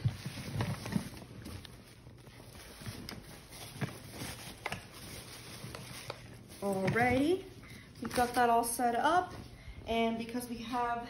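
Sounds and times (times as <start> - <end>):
towel and bedding rustling: 0.0 - 10.4.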